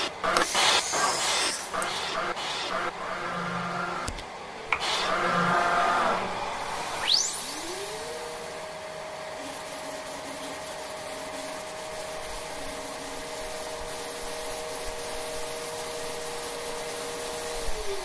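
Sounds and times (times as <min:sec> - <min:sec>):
router spindle whine: 0:00.0 - 0:18.0.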